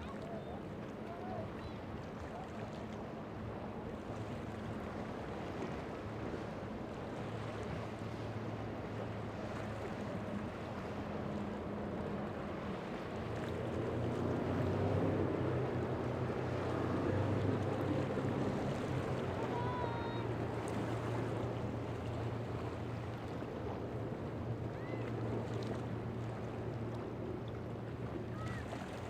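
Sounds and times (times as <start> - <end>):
waves: 0.0 - 29.0
wind: 0.0 - 29.0
boat engine running: 4.0 - 29.0.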